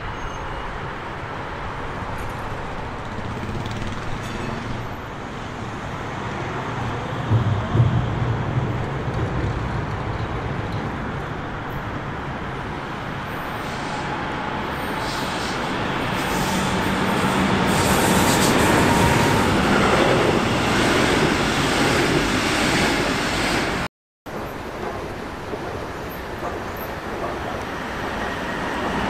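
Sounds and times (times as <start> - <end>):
road traffic: 0.0 - 24.7
train approaching: 0.0 - 29.0.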